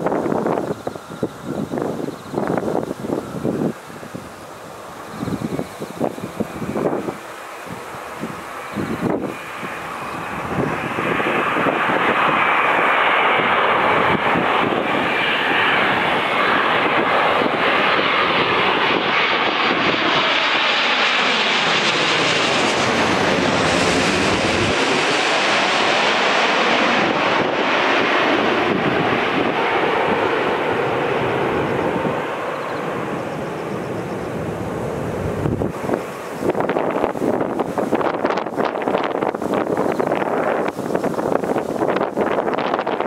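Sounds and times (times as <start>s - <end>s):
jet airliner flying overhead: 0.0s - 43.0s.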